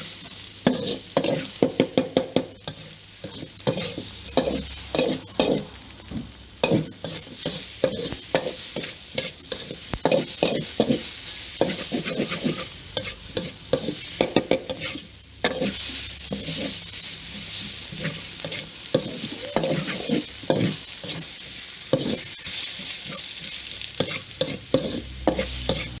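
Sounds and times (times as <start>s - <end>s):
food sizzling in a pan: 0.0s - 26.0s
utensil scraping pan: 0.7s - 5.8s, 6.6s - 16.8s, 17.4s - 21.3s, 21.9s - 23.3s, 24.0s - 26.0s.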